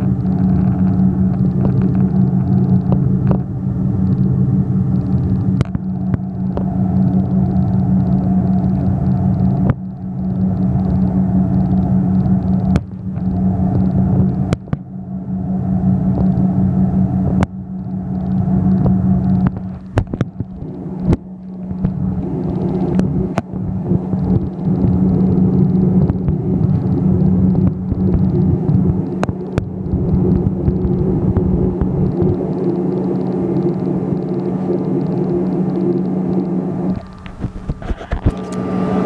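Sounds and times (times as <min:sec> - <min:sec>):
airliner engine hum: 0:00.0 - 0:39.0.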